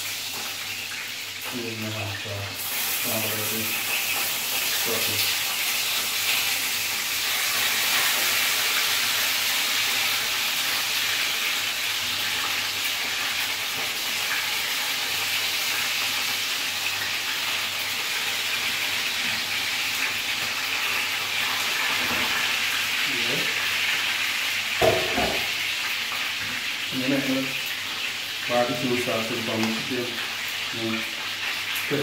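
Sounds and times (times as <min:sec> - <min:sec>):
chicken frying in hot oil: 0:00.0 - 0:32.0.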